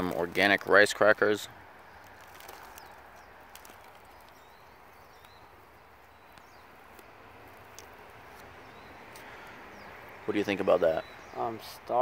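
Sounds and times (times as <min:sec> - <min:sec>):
faint outdoor hiss: 0:00.0 - 0:12.0
faint bird chirps: 0:01.8 - 0:11.8.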